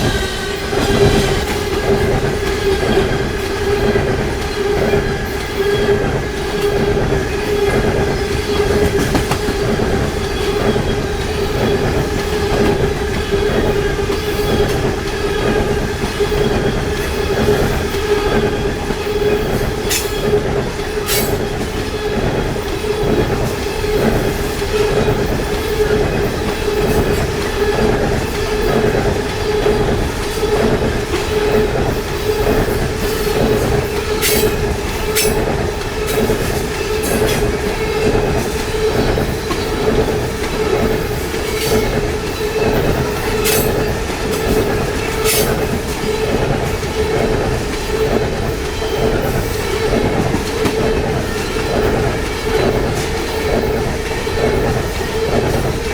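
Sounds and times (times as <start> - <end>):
train wheels clacking on rails: 0.0 - 55.9.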